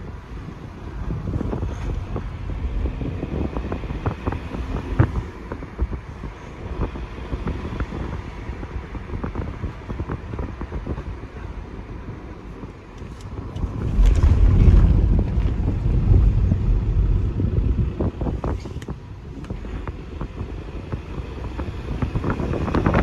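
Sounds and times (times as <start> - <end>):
low road rumble: 0.0 - 23.0
wind buffeting microphone: 0.0 - 23.0.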